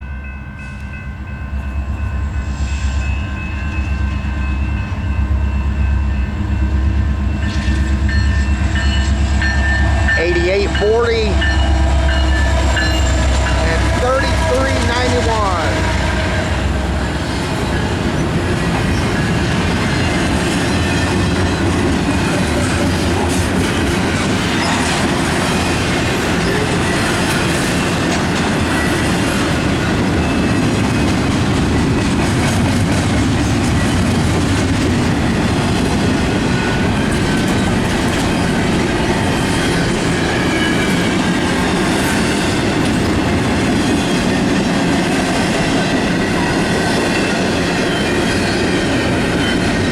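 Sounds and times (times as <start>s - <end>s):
freight train rolling past: 0.0s - 49.9s.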